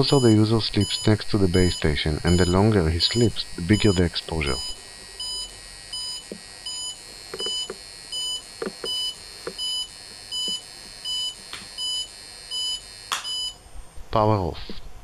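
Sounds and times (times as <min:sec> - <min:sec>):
high-pitched meter alarm beeps: 0:00.0 - 0:13.6.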